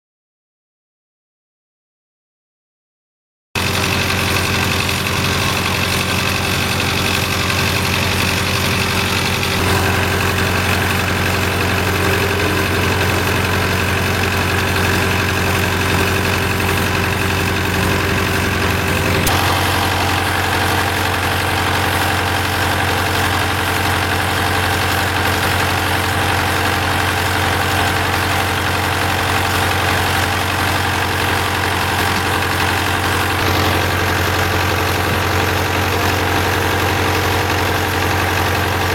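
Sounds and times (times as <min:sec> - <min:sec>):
engine running steadily: 0:03.6 - 0:38.9.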